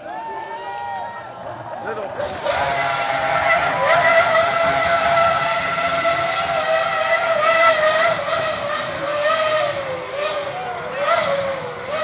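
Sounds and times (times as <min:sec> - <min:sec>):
racing car engine at high revs: 0:01.4 - 0:12.0.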